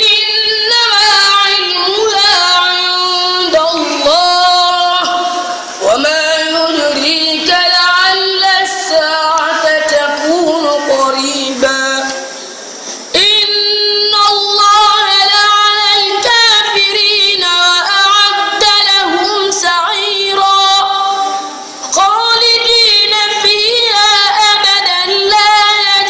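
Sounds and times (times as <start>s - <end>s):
boy reciting melodically: 0.0s - 12.4s, 13.1s - 26.0s.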